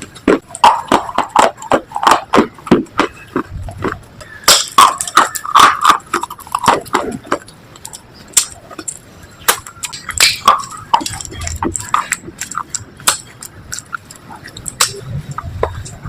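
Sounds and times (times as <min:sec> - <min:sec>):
slate being chewed and crunched: 0:00.0 - 0:15.4.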